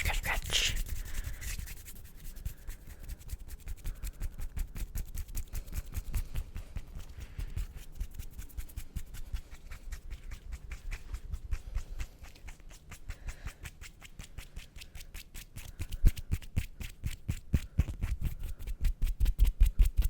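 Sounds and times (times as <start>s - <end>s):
hands rubbing together: 0.0s - 20.0s.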